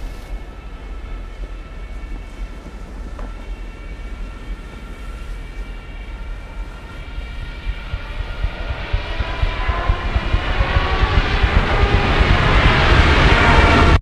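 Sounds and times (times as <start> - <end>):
dive bomber rumble and whine: 0.0 - 14.0
steady held tones: 0.0 - 14.0.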